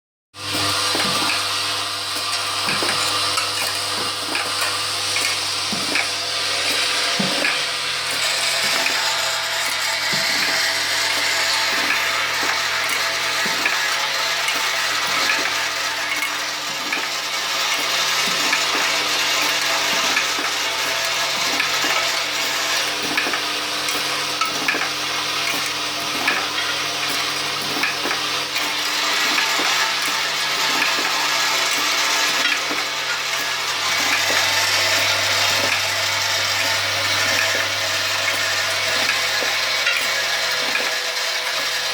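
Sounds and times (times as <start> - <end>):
machine hum and hiss: 0.4 - 41.9.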